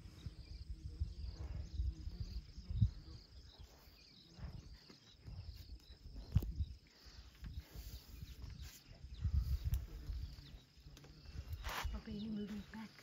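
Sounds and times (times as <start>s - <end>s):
insects chirping trill: 0.0s - 13.0s.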